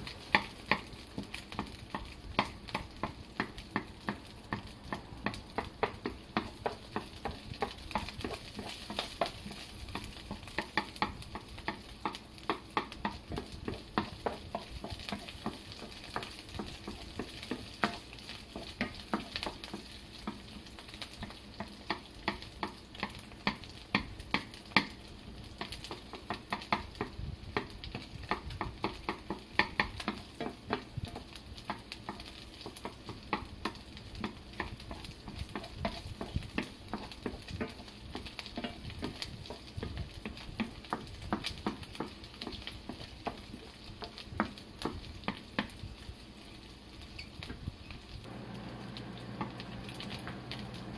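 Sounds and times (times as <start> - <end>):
wooden spatula scraping a pan: 0.0 - 23.6, 25.6 - 48.4
food sizzling in oil: 0.0 - 50.9.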